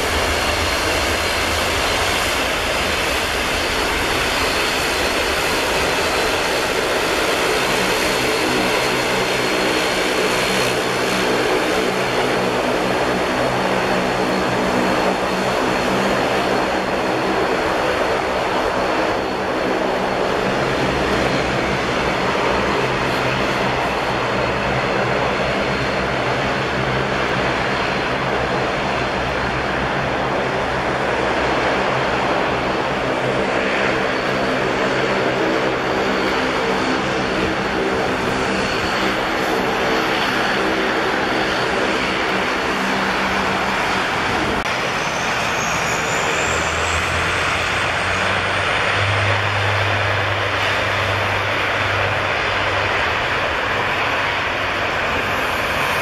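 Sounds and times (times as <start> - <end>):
high engine whine: 0.0 - 56.0
turboprop propeller drone: 0.0 - 56.0.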